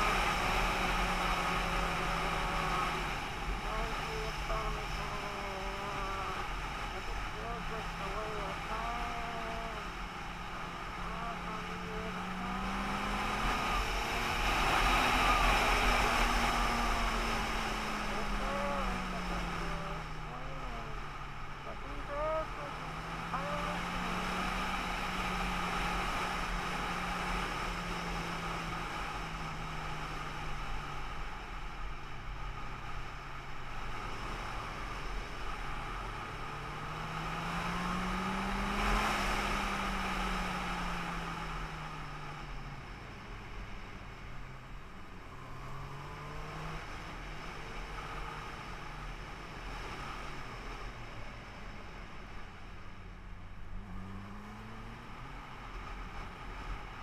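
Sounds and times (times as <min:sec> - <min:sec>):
road and wind noise: 0:00.0 - 0:57.0
vehicle engine shifting gears: 0:00.0 - 0:57.0.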